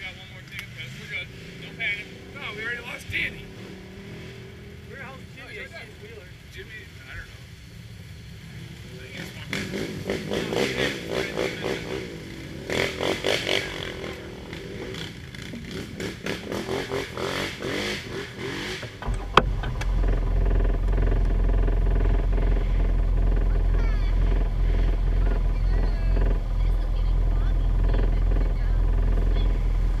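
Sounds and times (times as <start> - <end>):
atv engines running: 0.0 - 30.0
steady low engine rumble: 0.0 - 30.0.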